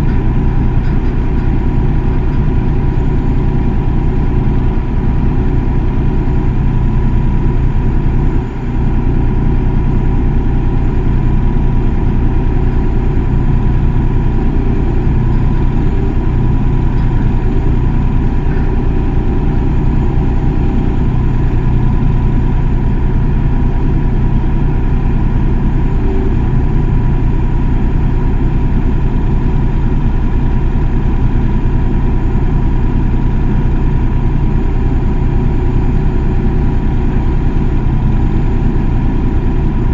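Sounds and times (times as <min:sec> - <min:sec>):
excavator diesel engine running: 0:00.0 - 0:39.9
steady whine: 0:00.0 - 0:39.9.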